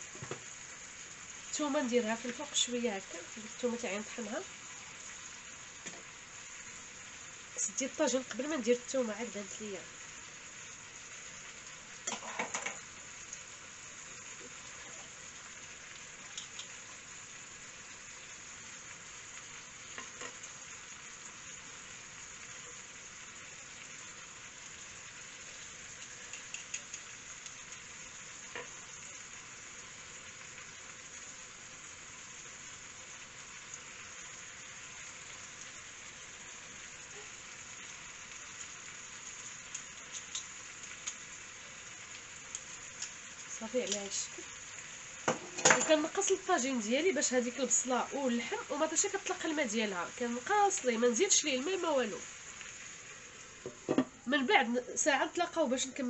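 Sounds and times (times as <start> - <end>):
meat and onions sizzling: 0.0 - 56.0.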